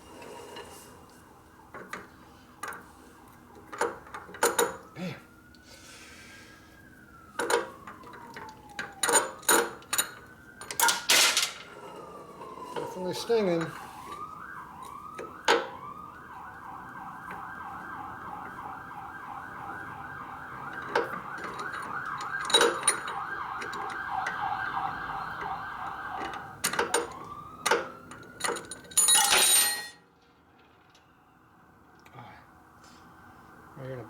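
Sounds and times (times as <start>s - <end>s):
emergency vehicle siren: 0.0s - 34.0s.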